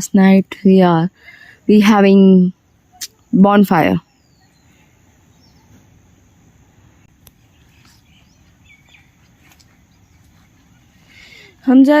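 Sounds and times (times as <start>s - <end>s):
faint outdoor ambience: 0.0s - 12.0s
faint bird chirps: 1.1s - 12.0s.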